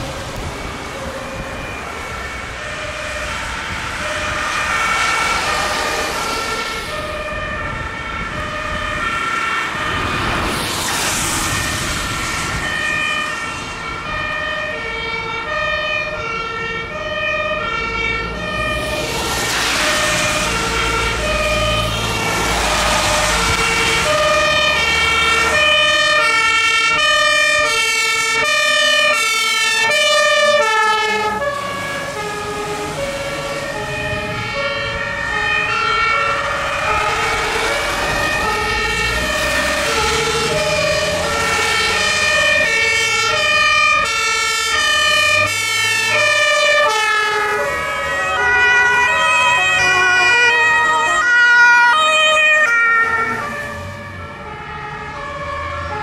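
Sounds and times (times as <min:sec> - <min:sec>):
truck engines running: 0:00.0 - 0:56.0
two-tone emergency sirens: 0:00.0 - 0:56.0.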